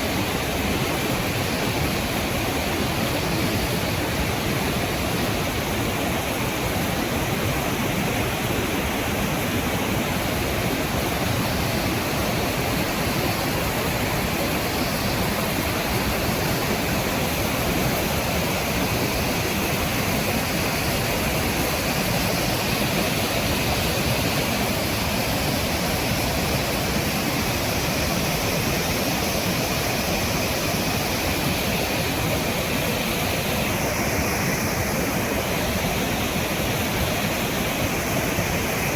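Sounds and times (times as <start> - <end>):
waterfall and river rapids rushing: 0.0 - 38.9.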